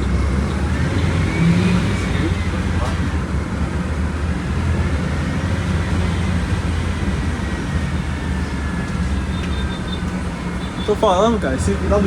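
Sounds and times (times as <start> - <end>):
diesel bus engine droning: 0.0 - 12.0.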